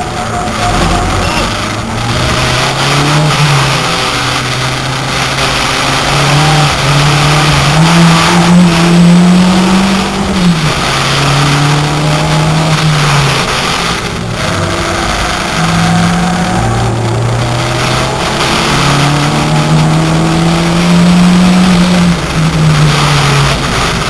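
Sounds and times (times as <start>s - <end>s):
car engine accelerating: 0.0s - 24.0s
wind and road noise: 0.0s - 24.0s.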